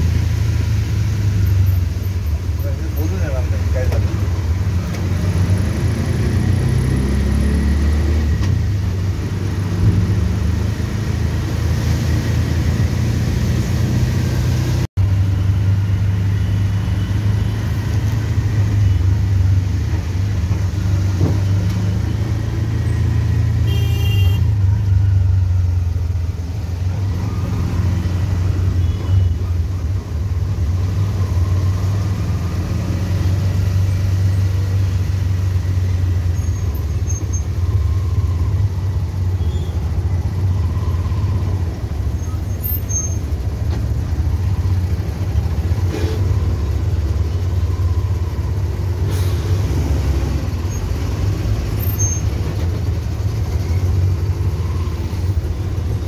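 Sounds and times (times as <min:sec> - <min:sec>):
auto rickshaw engine humming: 0:00.0 - 0:56.0.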